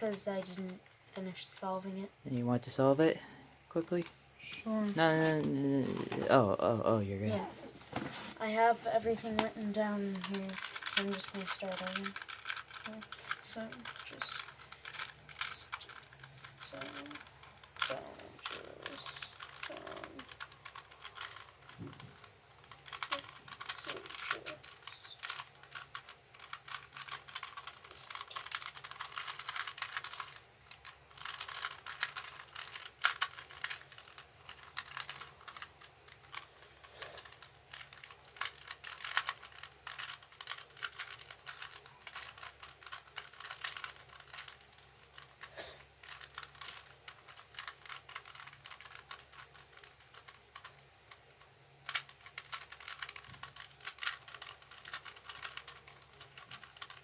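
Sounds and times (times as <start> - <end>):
puzzle cube clicking turns: 8.4 - 57.0.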